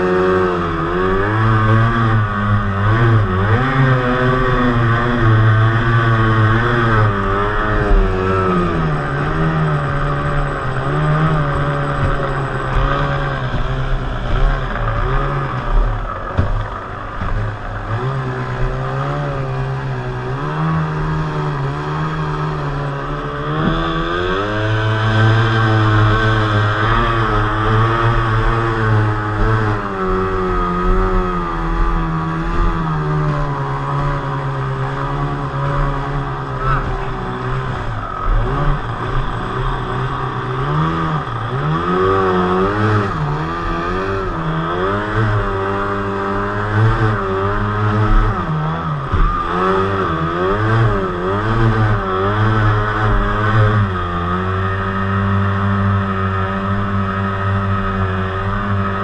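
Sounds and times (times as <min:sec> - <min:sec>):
outboard motor running at speed: 0:00.0 - 0:59.0.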